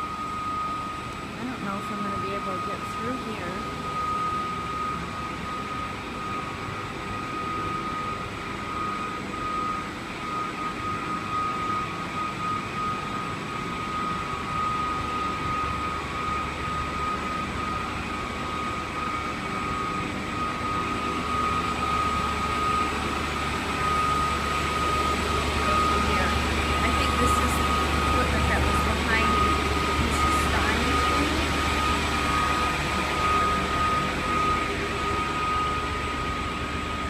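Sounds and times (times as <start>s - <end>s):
construction machinery drone: 0.0s - 37.0s
high-pitched whine: 0.0s - 37.0s.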